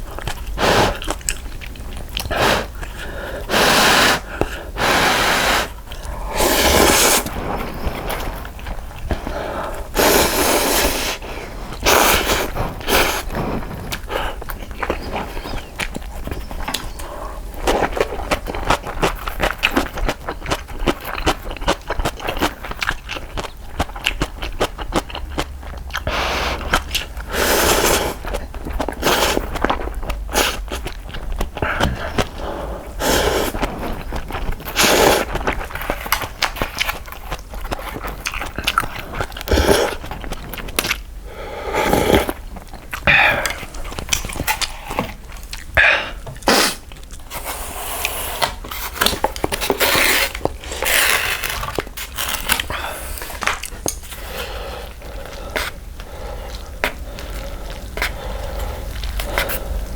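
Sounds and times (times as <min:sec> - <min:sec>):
wet chewing and mouth clicks: 0:00.0 - 0:59.9
slurping noodles: 0:00.2 - 0:01.5, 0:02.1 - 0:20.0, 0:26.0 - 0:59.9.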